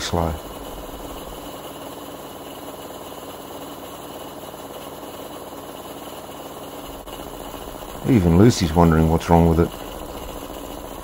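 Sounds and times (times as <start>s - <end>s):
air compressor pulsing: 0.0s - 11.0s.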